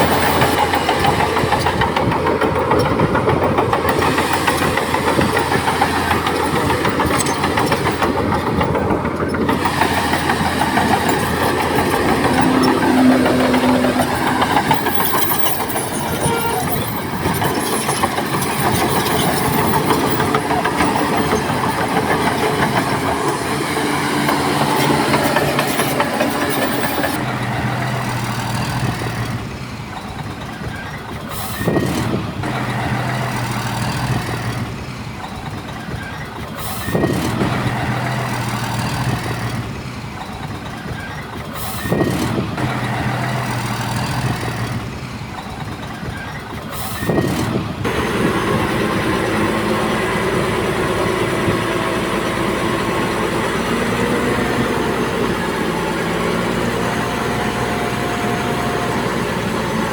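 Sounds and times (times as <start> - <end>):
clattering rumble of machinery: 0.0 - 59.9
diesel engine revving: 0.0 - 59.9.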